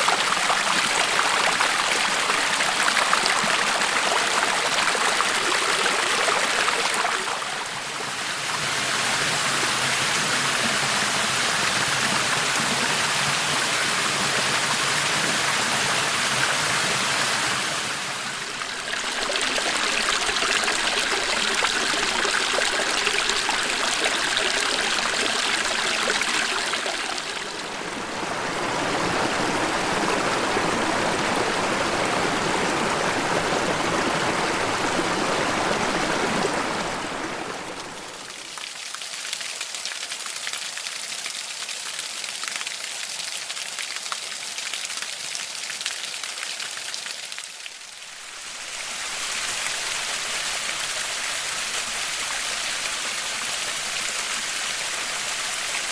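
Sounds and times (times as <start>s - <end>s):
creek water rushing and splashing: 0.0s - 55.9s.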